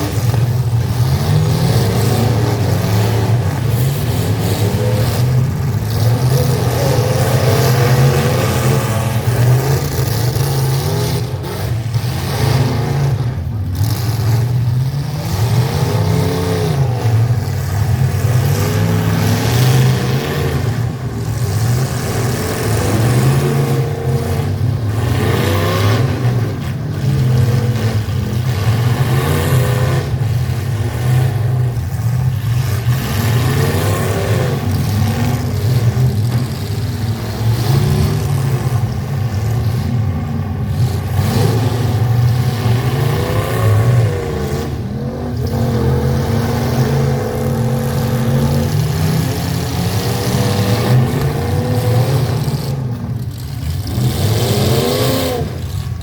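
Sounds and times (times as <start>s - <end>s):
pickup truck engines revving: 0.0s - 56.0s.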